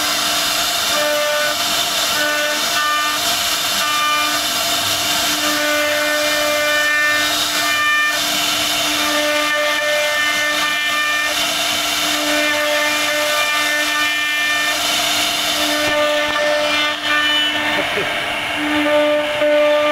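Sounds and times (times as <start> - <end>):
hiss of bit cutting wood: 0.0 - 19.9.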